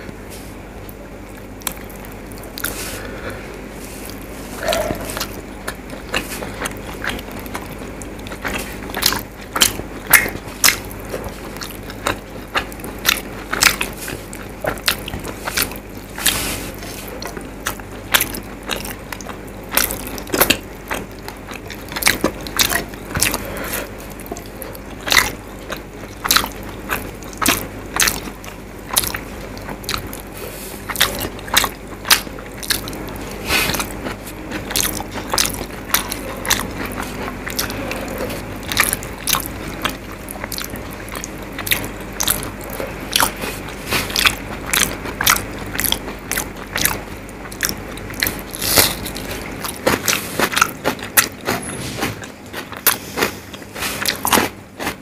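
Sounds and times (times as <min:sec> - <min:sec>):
close chewing: 0:00.8 - 0:55.0.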